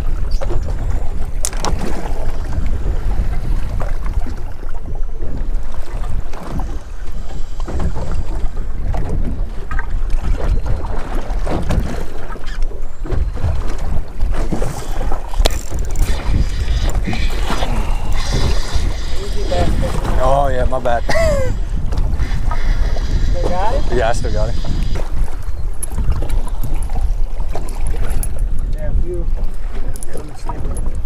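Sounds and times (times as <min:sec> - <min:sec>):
waves lapping at hull: 0:00.0 - 0:31.0
wind buffeting microphone: 0:00.0 - 0:31.0.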